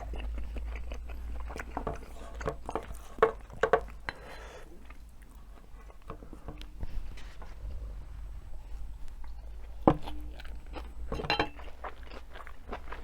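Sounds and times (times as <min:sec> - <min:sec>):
close chewing: 0:00.0 - 0:07.4, 0:08.5 - 0:13.0.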